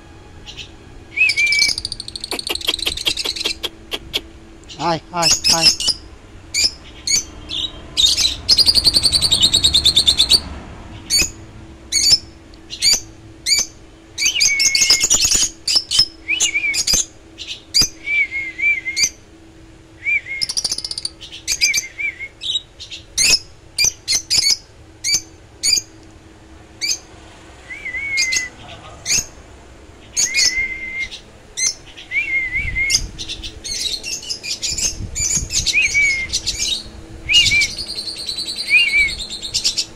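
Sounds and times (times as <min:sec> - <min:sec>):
parrots chirping: 0:00.4 - 0:18.0, 0:20.4 - 0:26.0, 0:27.7 - 0:29.4, 0:30.0 - 0:39.9
buzzy bird trill: 0:00.4 - 0:19.2, 0:20.1 - 0:26.0, 0:27.7 - 0:39.9.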